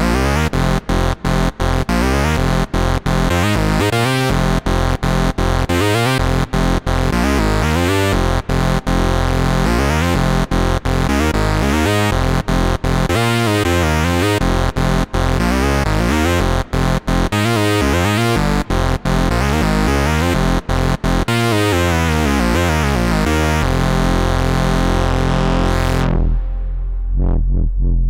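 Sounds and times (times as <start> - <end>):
synthesizer lead playing: 0.0 - 28.0.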